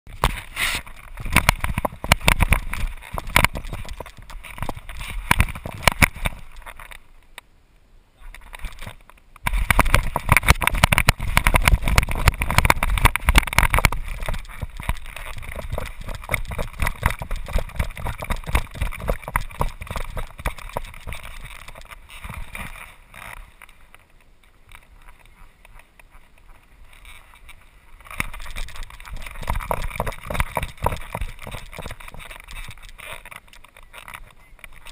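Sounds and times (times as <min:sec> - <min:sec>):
wind buffeting camera: 0:00.1 - 0:07.3, 0:08.2 - 0:34.9.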